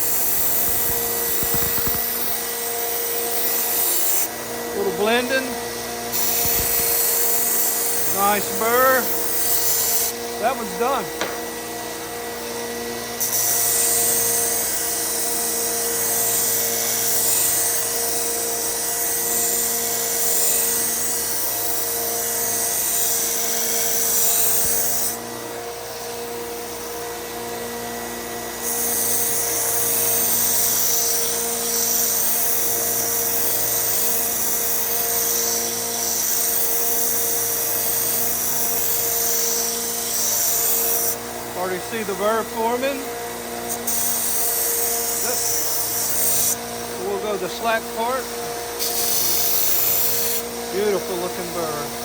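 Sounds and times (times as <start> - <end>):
belt sander running: 0.0 - 52.0
knife grinding on belt sander: 0.0 - 52.0
vacuum running: 0.0 - 52.0.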